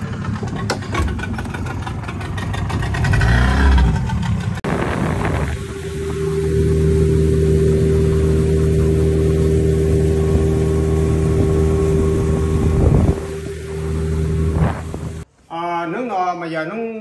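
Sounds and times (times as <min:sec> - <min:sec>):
engine droning: 0:00.0 - 0:15.3.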